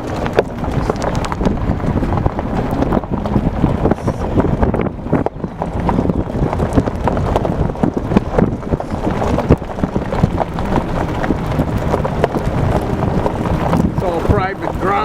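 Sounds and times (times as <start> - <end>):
small rattles and knocks: 0.0 - 15.0
vehicle road rumble: 0.0 - 15.0
wind buffeting microphone: 0.0 - 15.0.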